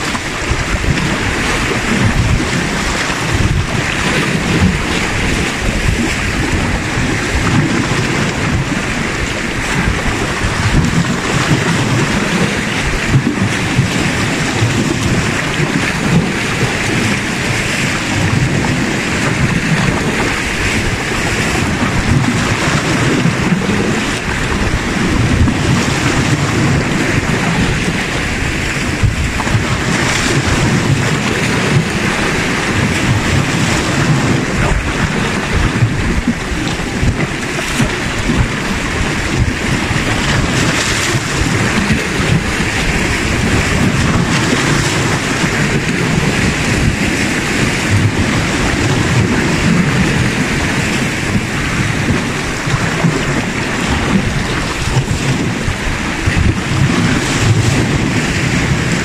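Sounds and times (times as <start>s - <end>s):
waves splashing against rocks: 0.0s - 59.0s
wind rumbling on microphone: 0.0s - 59.0s.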